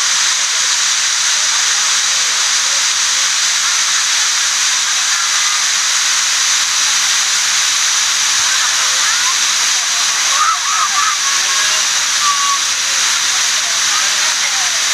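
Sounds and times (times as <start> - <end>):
waterfall hissing: 0.0 - 14.9.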